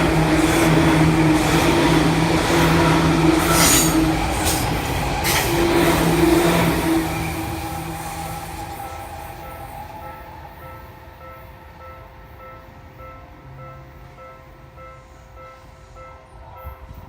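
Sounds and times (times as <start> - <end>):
electric train rumbling past: 0.0 - 17.0.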